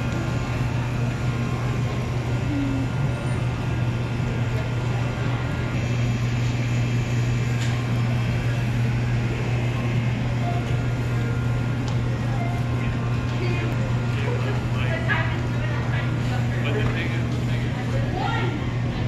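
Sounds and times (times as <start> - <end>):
low hum of refrigeration: 0.0 - 19.0.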